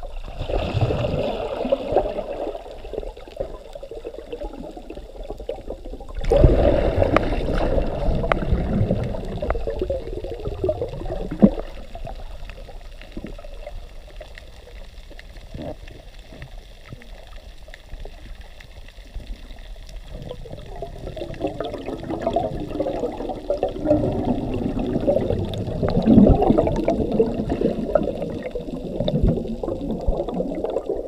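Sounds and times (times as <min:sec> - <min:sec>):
underwater swishing water: 0:00.0 - 0:31.0.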